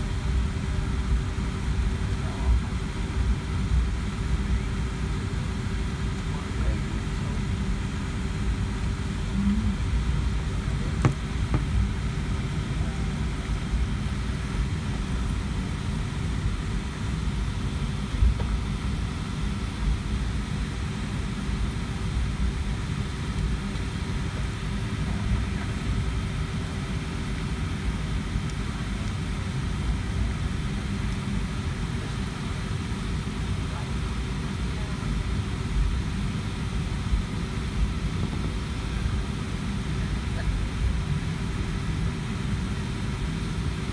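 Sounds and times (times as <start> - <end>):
constant cabin hum: 0.0 - 43.9
jet engine cabin rumble: 0.0 - 43.9.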